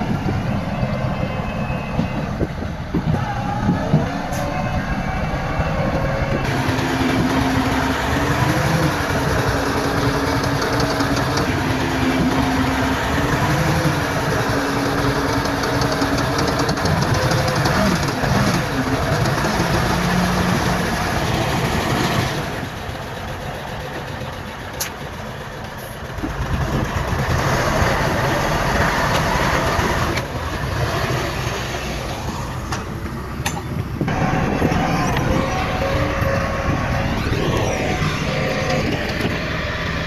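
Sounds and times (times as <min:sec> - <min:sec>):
heavy machinery diesel engines: 0:00.0 - 0:40.0.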